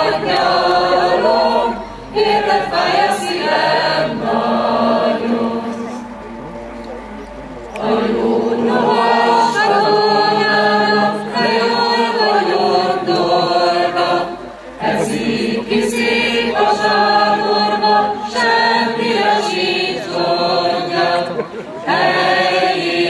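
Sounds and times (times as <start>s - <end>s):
mixed choir singing a cappella: 0.0s - 23.0s.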